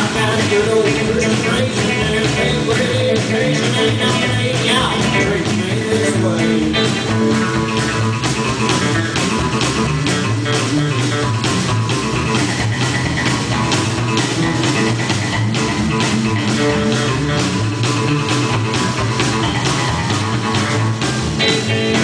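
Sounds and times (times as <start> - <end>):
country band playing: 0.0 - 22.0
drum kit steady beat: 0.0 - 22.0.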